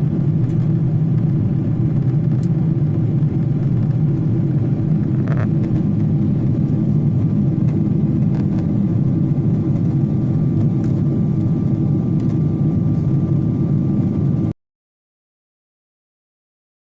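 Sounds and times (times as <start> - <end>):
jet engines rumbling: 0.0 - 14.5.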